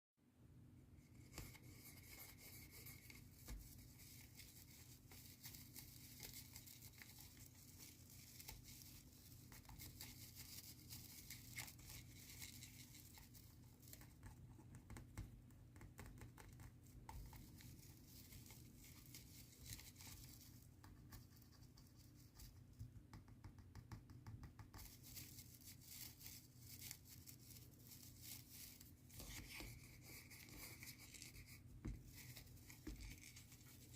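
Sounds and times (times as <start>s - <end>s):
scratching on christmas tree: 1.0s - 23.1s, 24.4s - 33.9s.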